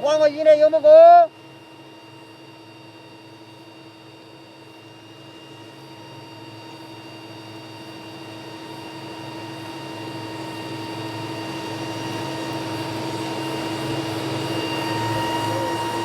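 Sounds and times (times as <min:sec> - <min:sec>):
train drone with whining tones: 0:00.0 - 0:16.0.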